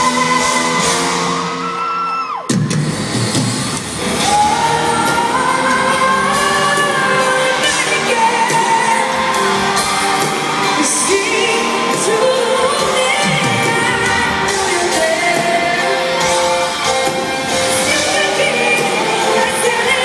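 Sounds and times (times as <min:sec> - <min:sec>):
woman singing pop ballad: 0:00.0 - 0:01.3, 0:04.2 - 0:20.0
crowd shouting and whooping: 0:00.0 - 0:20.0
musical accompaniment: 0:00.0 - 0:20.0.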